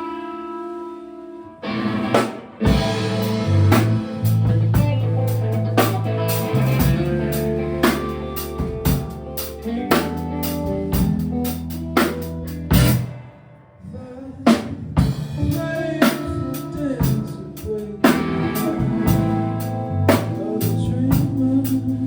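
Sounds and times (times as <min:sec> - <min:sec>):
live band playing: 0:01.6 - 0:13.3, 0:14.5 - 0:22.0.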